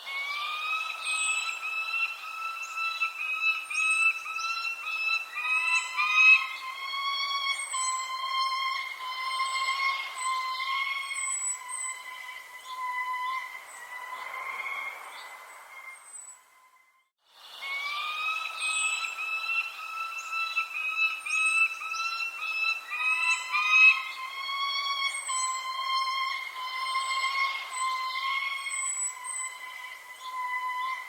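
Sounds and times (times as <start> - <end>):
bird whistled song: 0.0 - 31.0.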